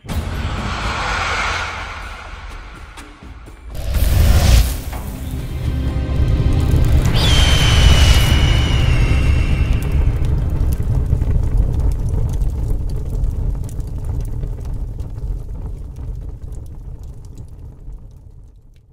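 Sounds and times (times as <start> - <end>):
deep low rumble: 0.0 - 18.4.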